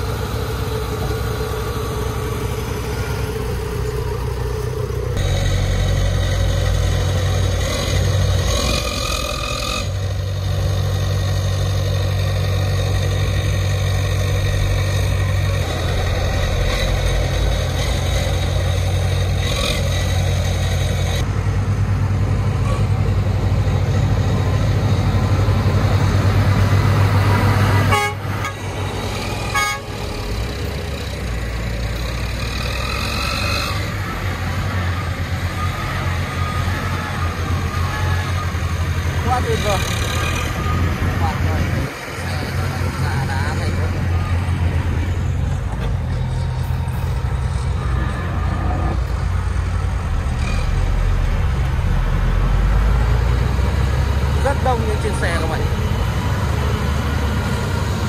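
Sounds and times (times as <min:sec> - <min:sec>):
heavy diesel engines under load: 0:00.0 - 0:58.0.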